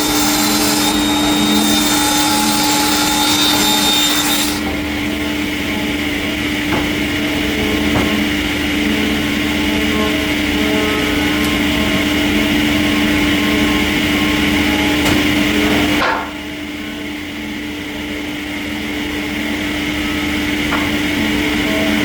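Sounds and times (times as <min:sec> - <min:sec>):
sawmill machinery humming: 0:00.0 - 0:22.0.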